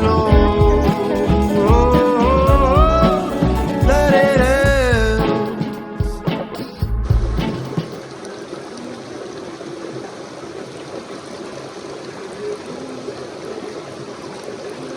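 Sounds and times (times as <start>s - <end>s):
stream of water running: 0.0s - 14.9s.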